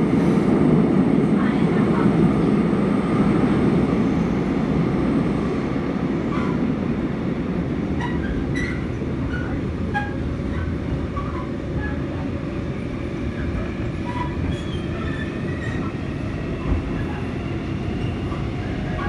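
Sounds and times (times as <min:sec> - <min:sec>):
subway train rumbling on rails: 0:00.0 - 0:19.0.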